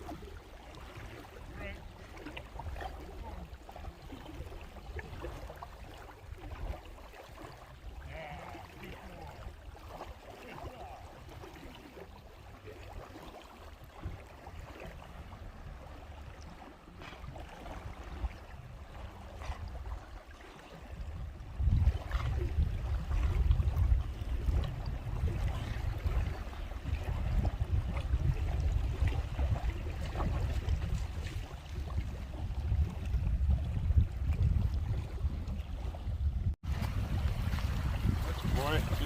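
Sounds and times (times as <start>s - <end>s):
water lapping at shoreline: 0.0s - 39.0s
wind rumble on microphone: 0.0s - 39.0s.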